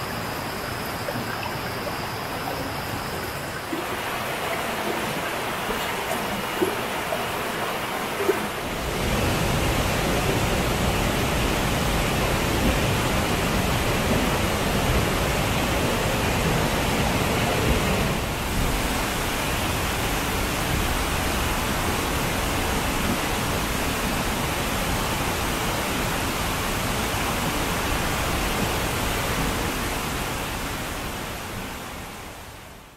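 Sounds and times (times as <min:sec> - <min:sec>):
distant waterfall roar: 0:00.0 - 0:32.9
stream running over rocks: 0:00.0 - 0:32.9.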